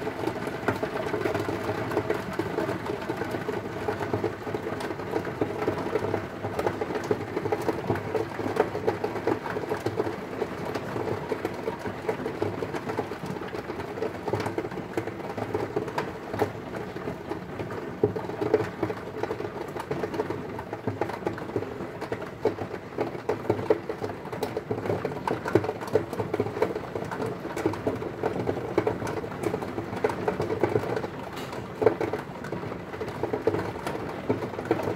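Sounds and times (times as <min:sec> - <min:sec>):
heavy rain on a window: 0:00.0 - 0:34.9.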